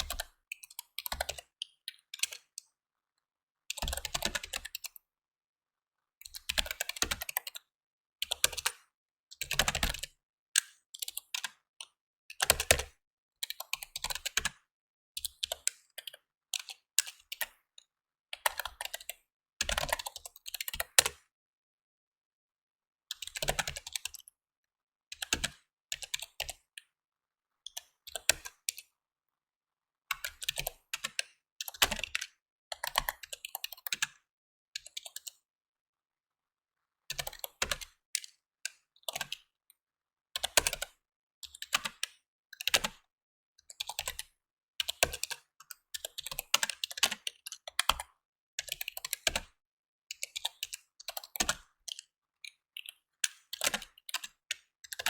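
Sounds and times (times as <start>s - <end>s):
typing on a computer keyboard: 0.0s - 2.7s, 3.7s - 5.0s, 6.2s - 17.6s, 18.4s - 21.2s, 23.1s - 24.3s, 25.1s - 26.9s, 27.7s - 28.9s, 30.1s - 34.2s, 34.8s - 35.4s, 37.1s - 39.5s, 40.4s - 55.0s.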